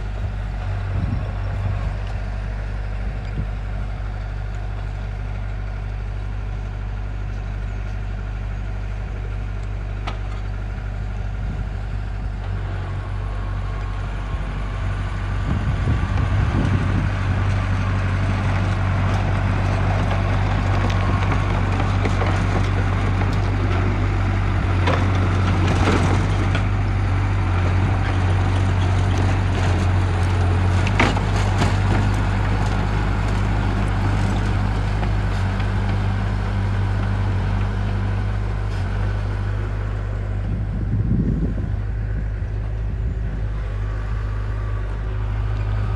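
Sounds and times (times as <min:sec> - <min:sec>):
heavy machinery diesel engine: 0:00.0 - 0:45.9.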